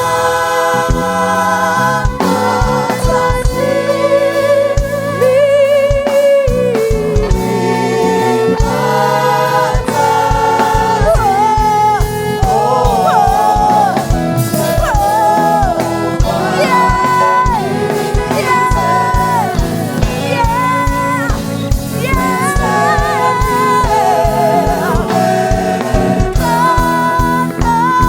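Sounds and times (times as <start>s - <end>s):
band with steady low beat: 0.0s - 28.0s
voices singing gospel: 0.0s - 28.0s.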